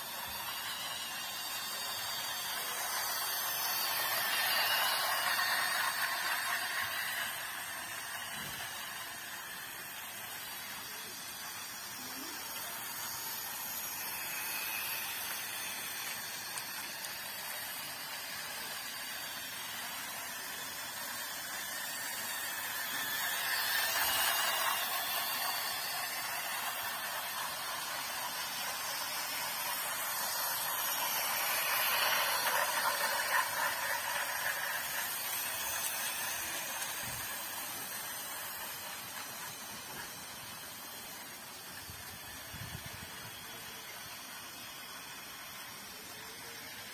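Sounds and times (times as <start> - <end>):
toy train motors whirring: 0.0 - 46.9.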